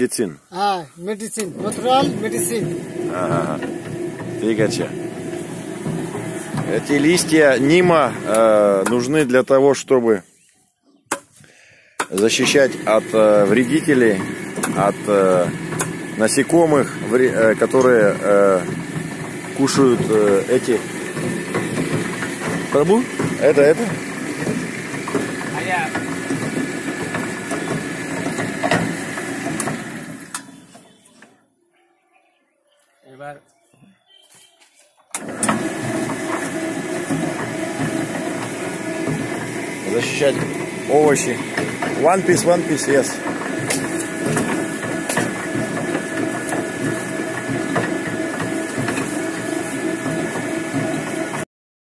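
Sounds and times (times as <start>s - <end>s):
electric shredder running: 1.4s - 9.3s, 12.0s - 30.6s, 35.1s - 51.5s.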